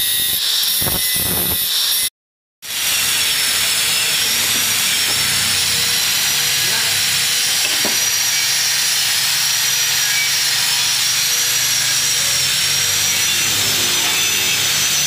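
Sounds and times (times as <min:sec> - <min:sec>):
angle grinder whining: 0:00.0 - 0:15.0.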